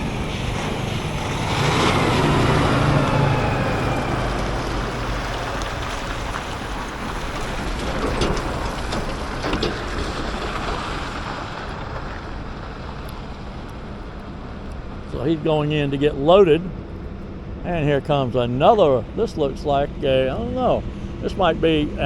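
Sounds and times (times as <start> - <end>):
truck passing: 0.0 - 22.0.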